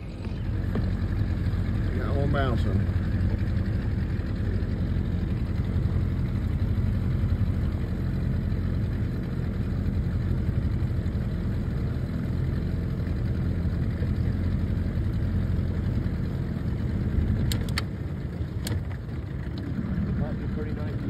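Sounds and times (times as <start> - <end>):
outboard motor humming: 0.0 - 21.0.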